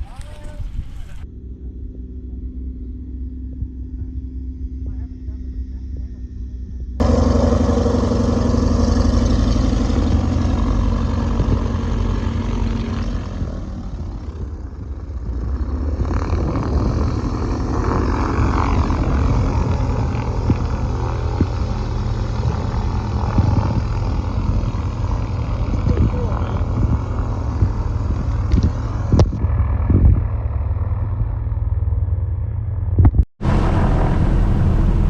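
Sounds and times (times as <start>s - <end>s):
propeller aircraft engine running: 0.0s - 35.0s.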